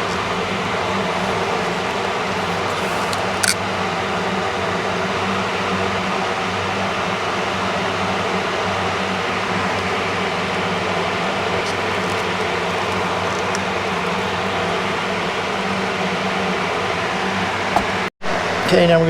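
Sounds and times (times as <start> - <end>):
electric fan whooshing: 0.0 - 19.0.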